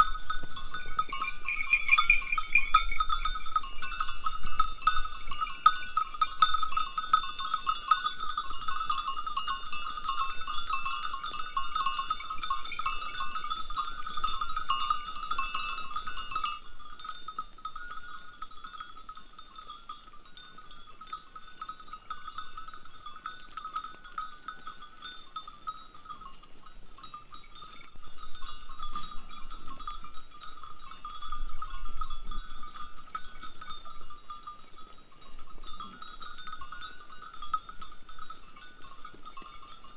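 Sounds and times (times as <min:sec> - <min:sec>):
sheep and goat bells jangling: 0:00.0 - 0:39.9.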